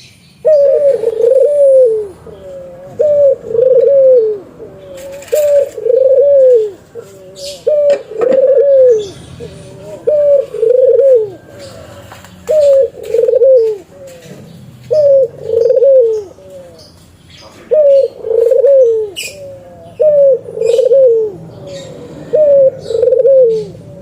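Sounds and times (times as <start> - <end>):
dove cooing: 0.4 - 24.0.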